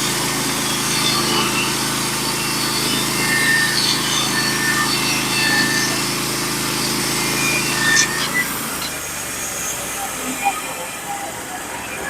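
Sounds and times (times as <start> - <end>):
sawmill engine running: 0.0 - 11.7.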